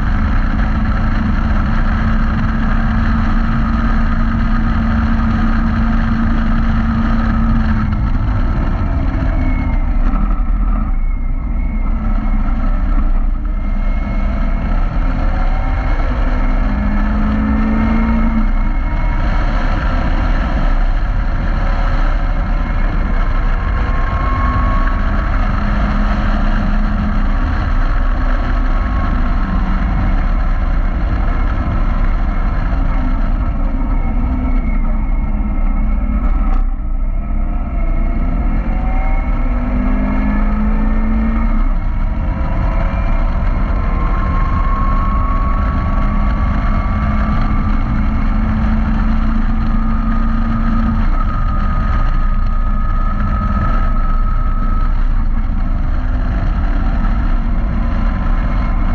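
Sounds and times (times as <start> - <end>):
car engine running hard: 0.0 - 58.9
wind rumble: 0.0 - 58.9.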